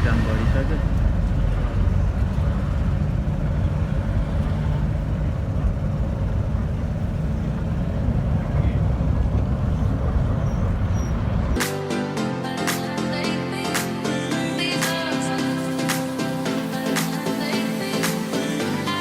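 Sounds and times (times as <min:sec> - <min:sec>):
bus engine rumbling: 0:00.0 - 0:11.6, 0:14.3 - 0:19.0.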